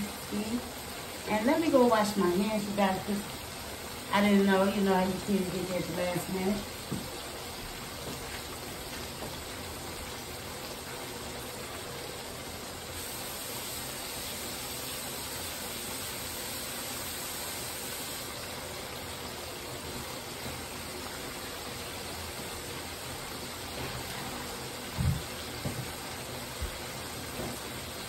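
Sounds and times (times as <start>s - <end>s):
hot oil hissing in a deep fryer: 0.0s - 28.0s.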